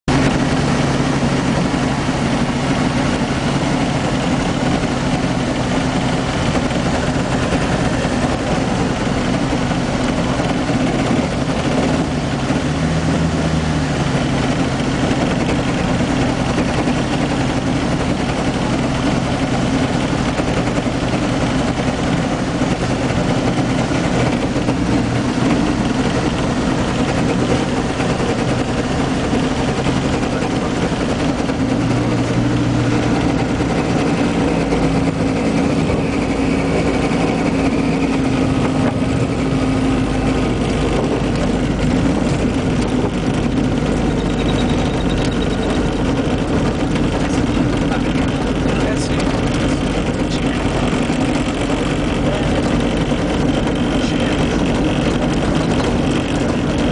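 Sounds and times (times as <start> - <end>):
light aircraft engine and propeller drone: 0.1 - 56.9.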